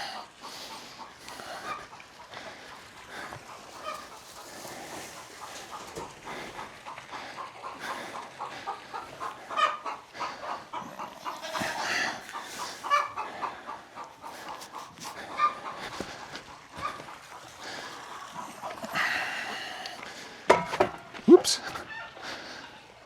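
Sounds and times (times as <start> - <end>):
poultry clucking: 0.0 - 23.0.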